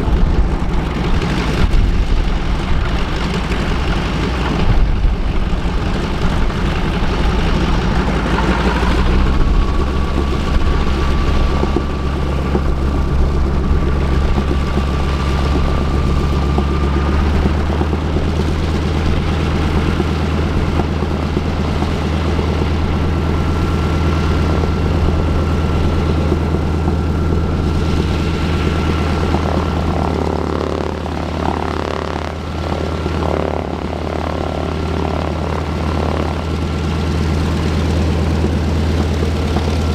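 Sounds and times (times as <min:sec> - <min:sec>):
high whine: 0:00.0 - 0:39.9
radial aircraft engine running: 0:00.0 - 0:39.9.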